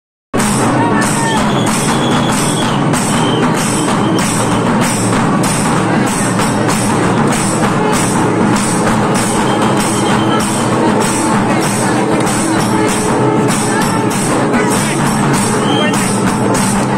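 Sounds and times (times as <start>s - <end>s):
drum-led procession music: 0.3s - 16.9s.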